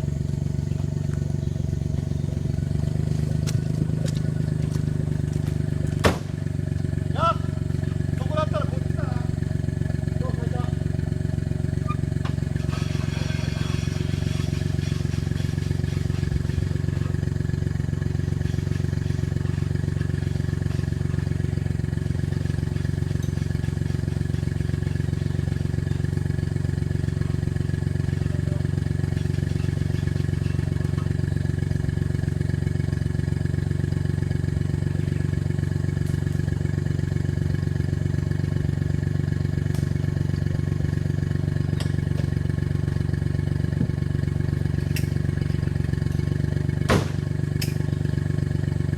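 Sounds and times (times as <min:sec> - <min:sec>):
vehicle engine droning: 0:00.0 - 0:48.9.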